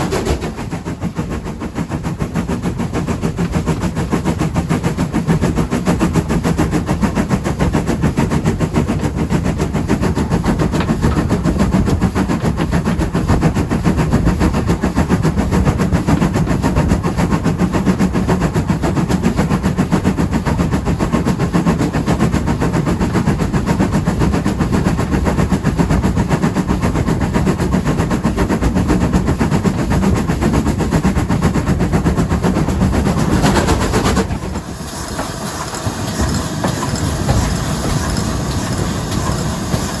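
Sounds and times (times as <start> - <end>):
moving train rumbling: 0.0 - 40.0.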